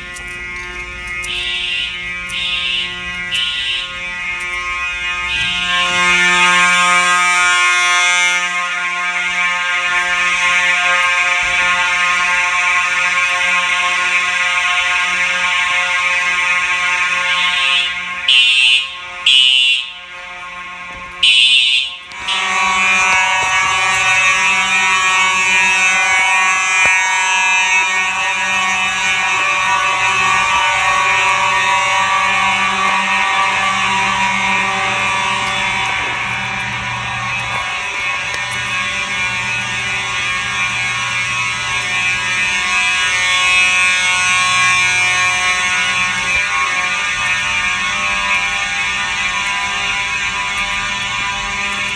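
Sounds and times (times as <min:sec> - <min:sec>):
fire alarm horns blasting: 0:00.0 - 0:51.9.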